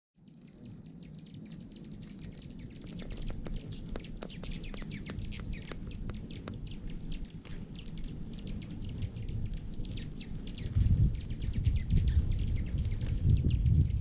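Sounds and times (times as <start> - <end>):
low background rumble: 0.2 - 14.0
small birds chirping: 0.2 - 14.0.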